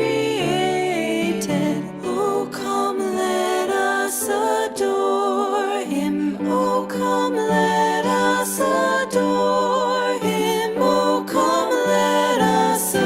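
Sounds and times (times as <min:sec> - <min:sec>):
people singing a christmas song: 0:00.0 - 0:13.0.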